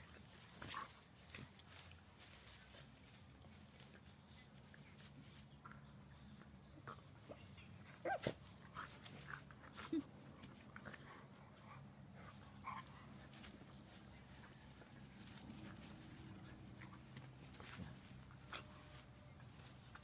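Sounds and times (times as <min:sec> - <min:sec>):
dogs scuffling on grass: 0:00.0 - 0:06.6, 0:08.2 - 0:20.0.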